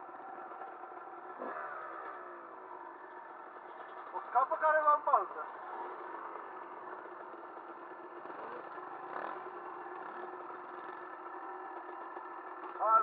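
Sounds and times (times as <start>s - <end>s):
engine revving: 0.0s - 3.6s, 4.4s - 13.0s
dirt bike engines idling: 0.0s - 13.0s.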